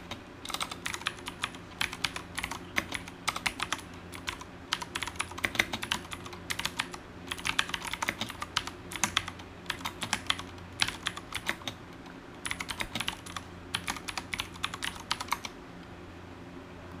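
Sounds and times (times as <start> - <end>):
clicky mechanical keyboard typing: 0.0 - 15.6
faint low hum: 0.0 - 17.0.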